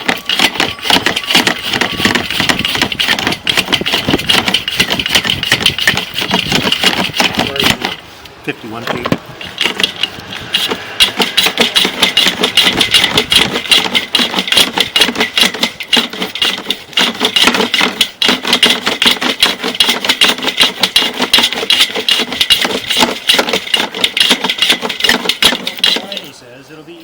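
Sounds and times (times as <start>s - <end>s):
cable reel rattling and clicking: 0.0s - 8.0s, 8.7s - 26.3s.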